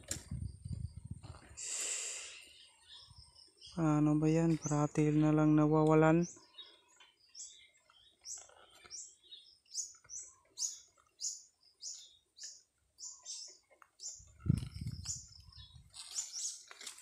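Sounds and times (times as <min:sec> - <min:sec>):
small bird chirping: 0:02.0 - 0:17.0.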